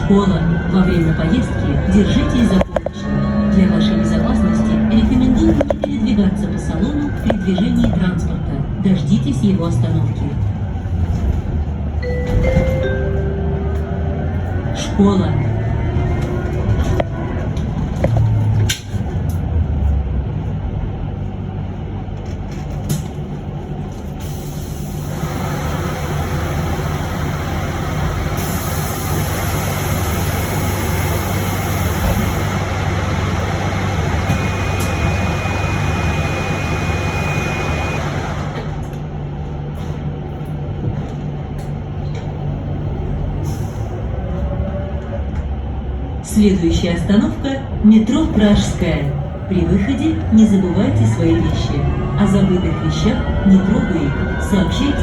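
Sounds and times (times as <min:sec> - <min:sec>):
bus cabin rumble: 0:00.0 - 0:55.0
road and tyre noise: 0:00.0 - 0:55.0.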